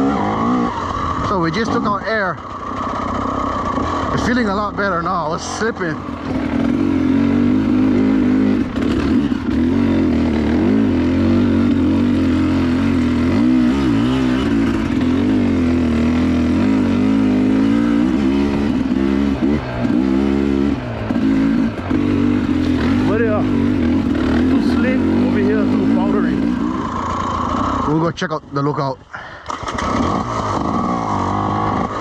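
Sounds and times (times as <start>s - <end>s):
dirt bike engine revving: 0.0s - 28.3s, 29.2s - 32.0s.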